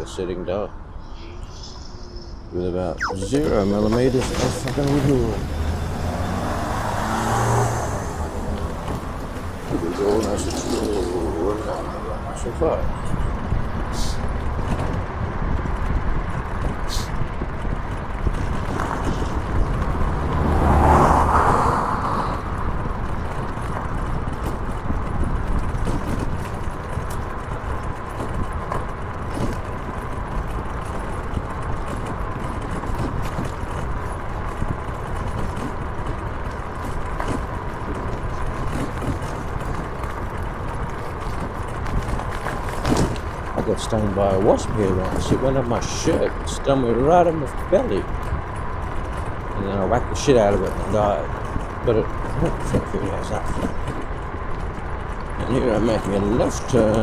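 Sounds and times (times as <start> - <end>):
road and wind noise: 0.0 - 57.0
motor vehicle passing: 3.0 - 57.0.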